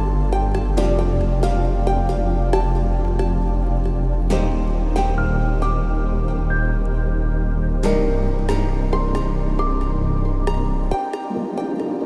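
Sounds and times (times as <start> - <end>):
new-age synth music: 0.0 - 12.0.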